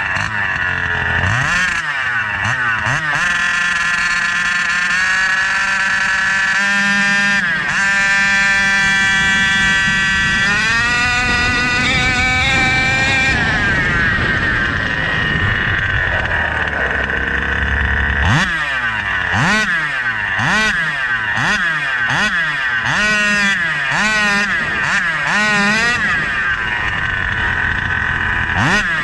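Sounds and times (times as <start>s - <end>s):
steady high whine: 0.0s - 2.8s, 5.8s - 29.0s
two-stroke engine revving: 0.0s - 29.0s.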